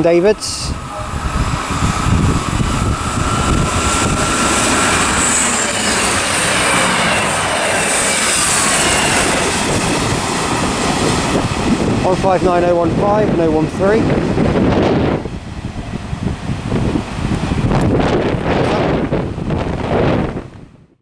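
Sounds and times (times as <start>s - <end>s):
train wheels rumbling on rails: 0.0s - 20.7s.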